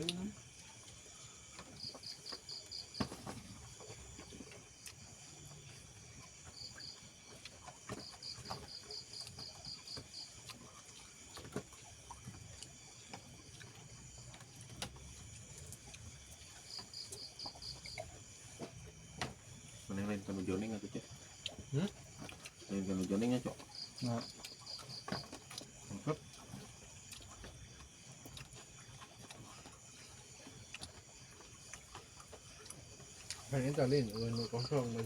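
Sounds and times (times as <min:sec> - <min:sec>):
cricket chirping: 0:00.0 - 0:35.0.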